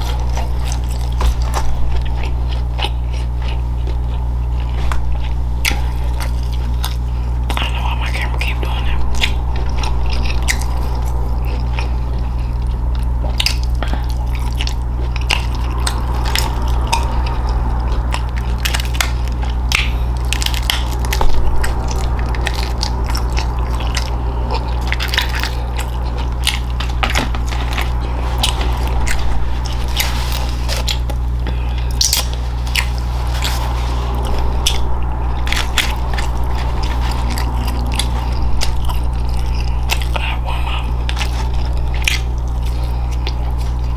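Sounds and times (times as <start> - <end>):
chewing crunches: 0.0 - 43.9
steady low hum: 0.0 - 43.9.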